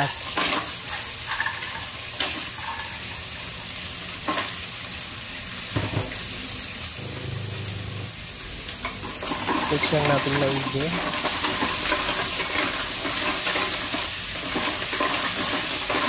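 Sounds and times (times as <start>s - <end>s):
mussels sizzling in hot oil: 0.0s - 16.0s.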